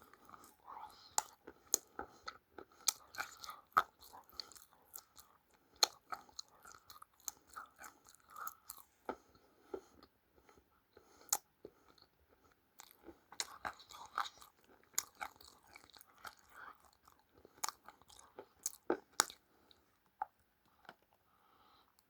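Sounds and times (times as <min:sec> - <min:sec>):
chewing crunchy food: 0:00.0 - 0:21.2.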